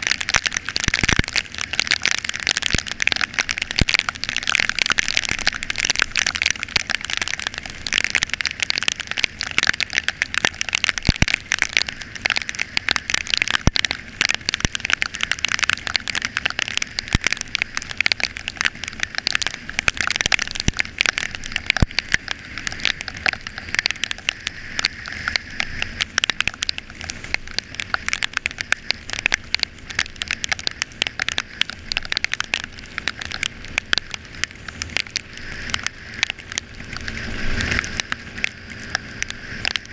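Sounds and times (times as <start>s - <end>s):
heavy rain patter: 0.0s - 39.9s
raindrop clicks: 0.0s - 39.9s.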